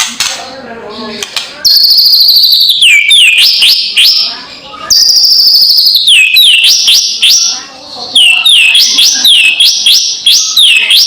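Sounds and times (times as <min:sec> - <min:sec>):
bird whistling: 0:01.7 - 0:11.0.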